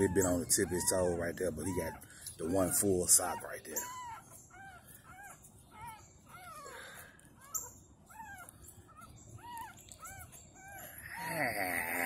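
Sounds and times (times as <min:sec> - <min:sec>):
puppy whimpering: 0:00.0 - 0:12.0.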